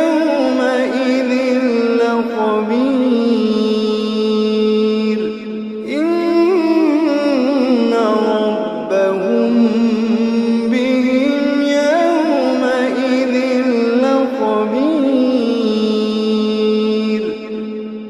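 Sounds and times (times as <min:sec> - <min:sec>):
person chanting wordlessly: 0:00.0 - 0:17.9.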